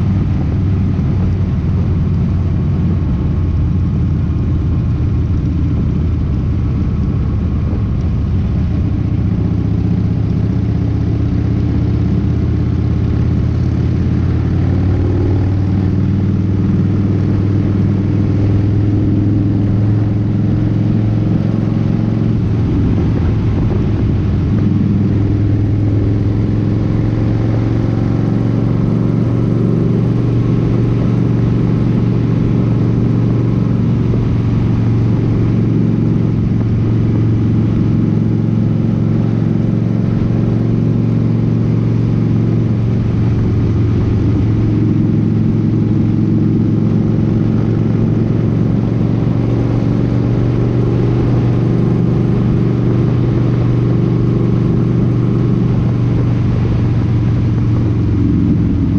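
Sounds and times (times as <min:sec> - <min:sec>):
motorcycle engine cruising: 0:00.0 - 0:58.9
road and wind noise: 0:00.0 - 0:58.9.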